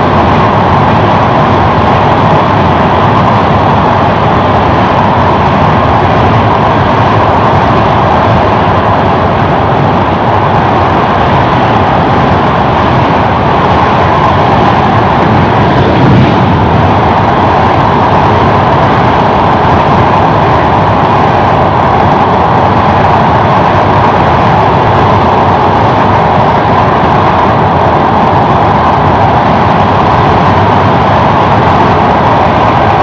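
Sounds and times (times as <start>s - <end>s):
train wheels rushing on rails: 0.0s - 33.0s
wind blowing across microphone: 0.0s - 33.0s.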